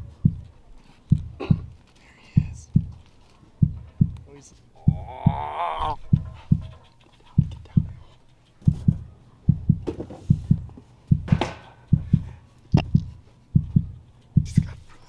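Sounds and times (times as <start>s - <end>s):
heartbeat thumps: 0.0s - 0.5s, 1.1s - 3.0s, 3.6s - 8.0s, 8.6s - 14.9s.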